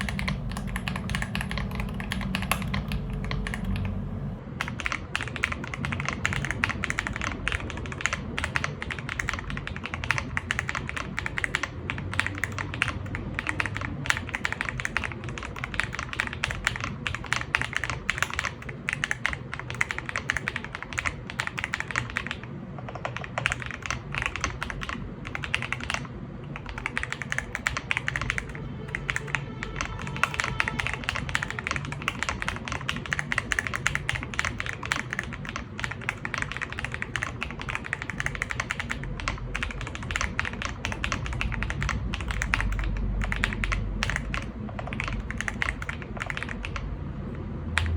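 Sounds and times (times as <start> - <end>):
mechanical keyboard typing: 0.0 - 4.0, 4.6 - 47.0.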